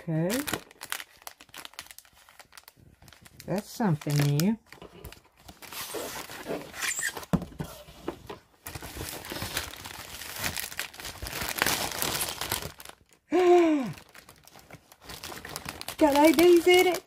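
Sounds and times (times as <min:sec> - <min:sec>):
plastic packaging crinkling: 0:00.0 - 0:07.4, 0:08.2 - 0:17.0.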